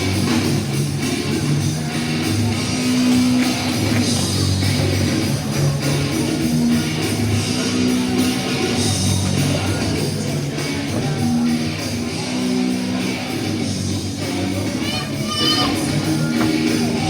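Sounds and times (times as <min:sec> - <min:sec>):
loud rock music with guitar: 0:00.0 - 0:17.0.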